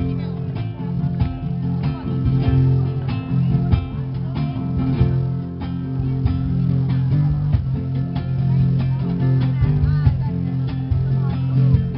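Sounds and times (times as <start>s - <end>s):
strummed acoustic guitar: 0.0s - 11.9s
sustained bass notes: 0.0s - 11.9s.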